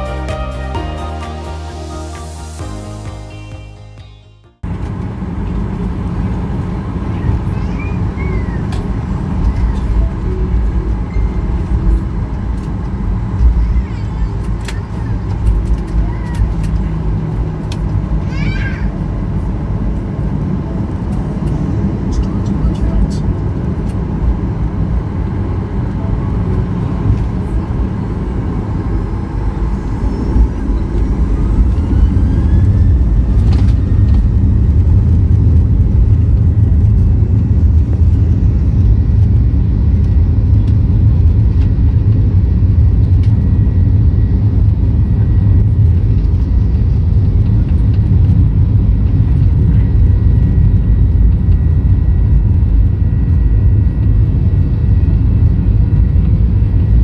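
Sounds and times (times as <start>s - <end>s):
jet engines spooling up: 4.6s - 57.0s
low rumble of takeoff run: 4.6s - 57.0s.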